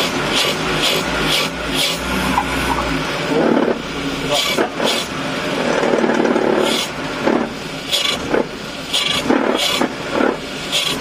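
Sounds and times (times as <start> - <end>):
car engine turning over and catching: 0.0 - 11.0.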